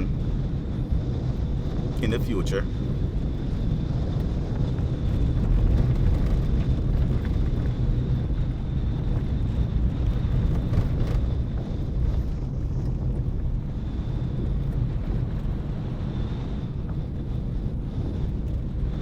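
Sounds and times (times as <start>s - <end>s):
car road noise from inside: 0.0s - 19.0s
wind on microphone: 0.0s - 19.0s.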